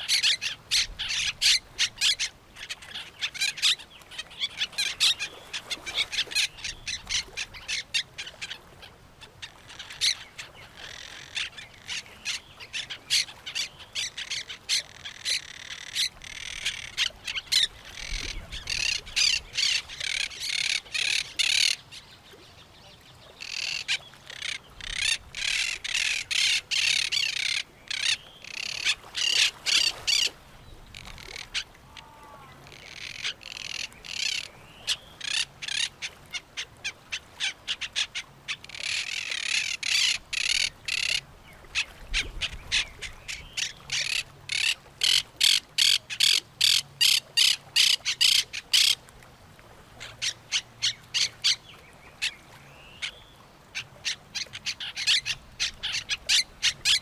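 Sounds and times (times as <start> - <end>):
birds calling with harsh notes: 9.3 - 49.0, 50.1 - 57.0.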